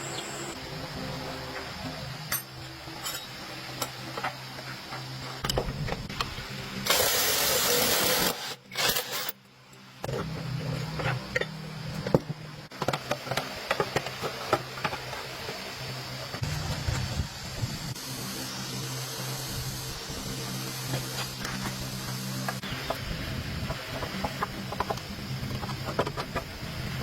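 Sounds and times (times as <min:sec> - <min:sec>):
steady low hum: 0:00.0 - 0:06.9, 0:09.4 - 0:27.0.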